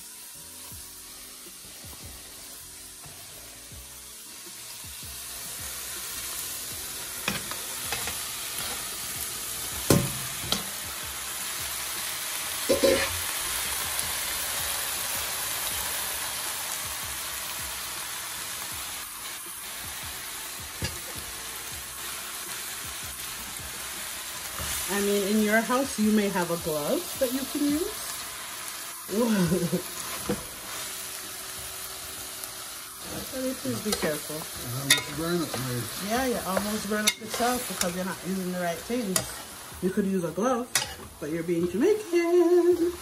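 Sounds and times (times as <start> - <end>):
meat sizzling in a pot: 0.0 - 43.0.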